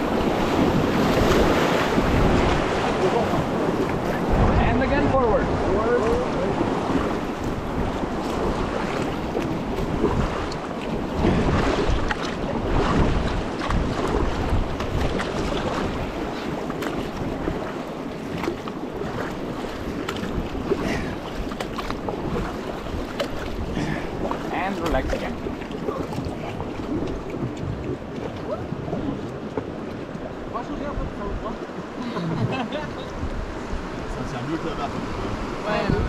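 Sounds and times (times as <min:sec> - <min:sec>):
paddle strokes in water: 0:00.0 - 0:04.6, 0:05.5 - 0:32.6
river water rushing and splashing: 0:00.0 - 0:36.0
wind buffeting microphone: 0:00.0 - 0:36.0.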